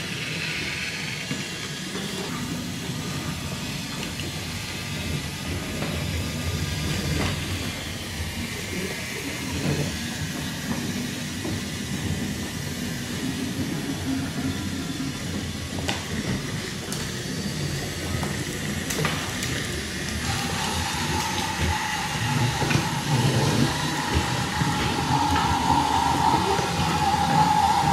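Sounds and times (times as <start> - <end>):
toy train motors whirring: 0.0 - 27.9
wheels rolling on wooden track: 0.0 - 27.9.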